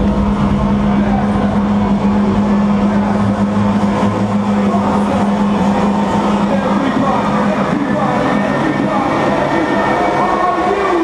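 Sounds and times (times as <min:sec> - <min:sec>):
crowd noise: 0:00.0 - 0:11.0
held low synth tone: 0:00.0 - 0:11.0
loud electronic dance music: 0:00.3 - 0:11.0.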